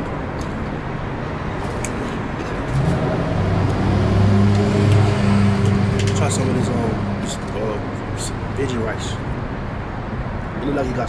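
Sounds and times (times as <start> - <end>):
street traffic: 0.0 - 11.0
vehicle engine humming: 0.0 - 11.0.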